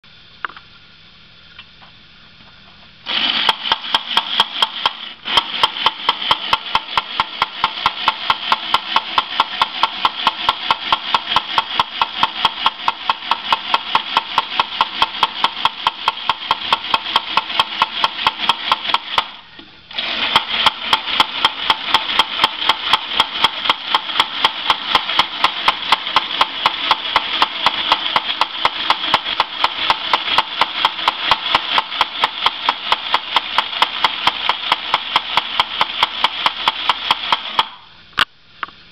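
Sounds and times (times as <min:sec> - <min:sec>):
rapid clatter of clicks: 0:03.1 - 0:19.3, 0:20.0 - 0:37.8
toy gun motor whirring: 0:03.1 - 0:37.8.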